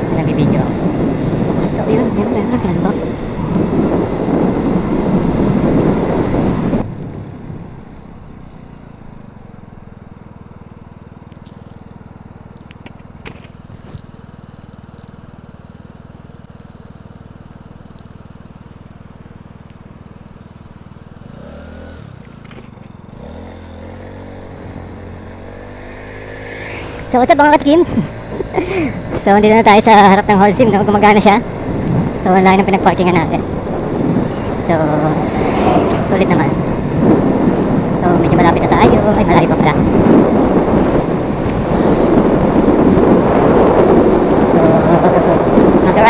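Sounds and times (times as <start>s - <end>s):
scooter engine idling and revving: 0.0s - 46.0s
wind and road noise: 0.0s - 46.0s.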